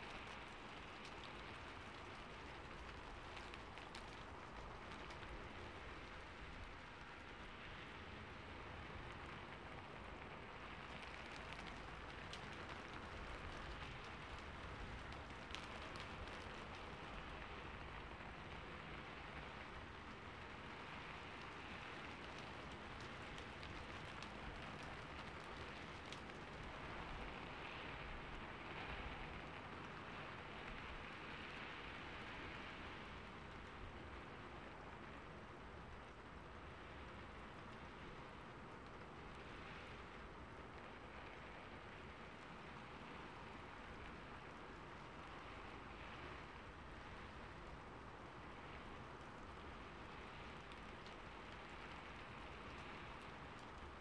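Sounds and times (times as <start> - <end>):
faint ticks: 0.0 - 54.0.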